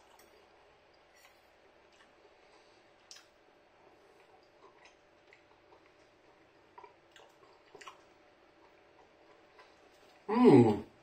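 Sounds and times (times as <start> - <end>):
quiet chewing: 0.0 - 10.3.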